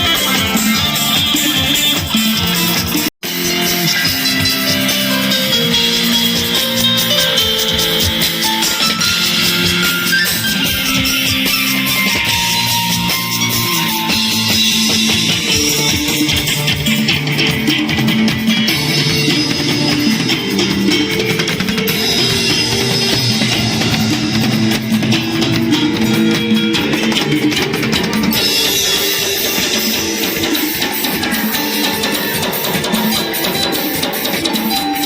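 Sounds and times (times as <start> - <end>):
drum kit with cymbals: 0.0 - 35.0
electric guitar: 0.0 - 35.0.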